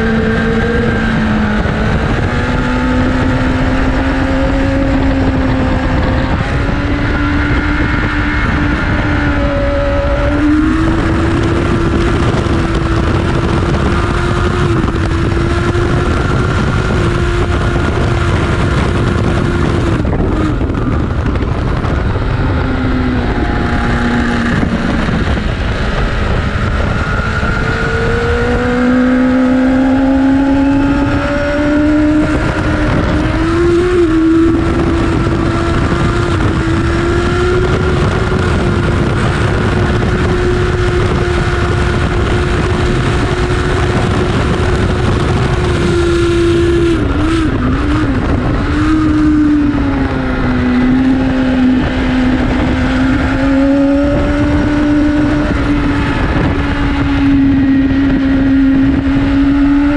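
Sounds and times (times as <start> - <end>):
heavy wind rush: 0.0 - 59.9
motorcycle engine running hard: 0.0 - 59.9.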